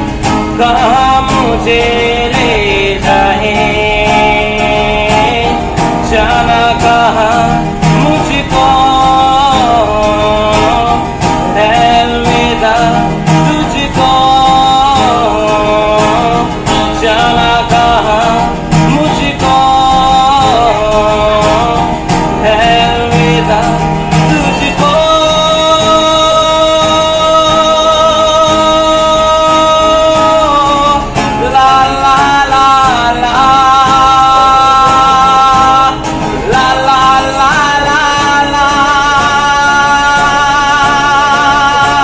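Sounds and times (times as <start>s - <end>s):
acoustic guitar strumming: 0.0s - 42.0s
man singing: 0.0s - 42.0s.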